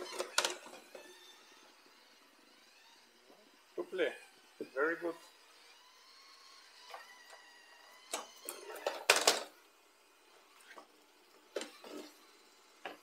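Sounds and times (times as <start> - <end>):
robot vacuum motor whine: 0.0 - 13.0.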